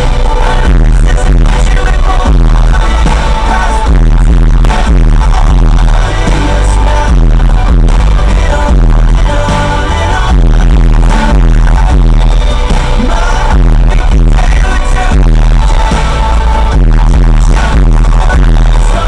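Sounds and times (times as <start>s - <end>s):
loud music with heavy beat: 0.0s - 19.0s.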